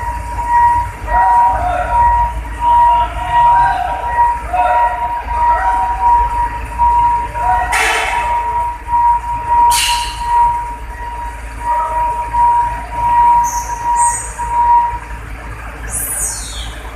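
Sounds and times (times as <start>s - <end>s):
steady high tone: 0.0s - 16.9s
truck diesel engine rumbling: 0.0s - 16.9s.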